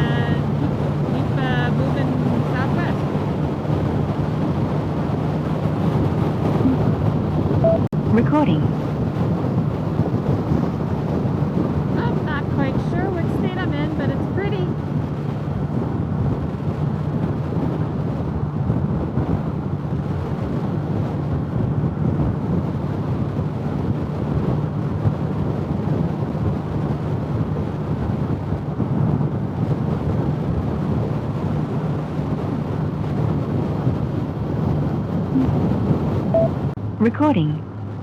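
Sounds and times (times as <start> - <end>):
motorcycle engine drone: 0.0 - 38.0
wind rushing over microphone: 0.0 - 38.0.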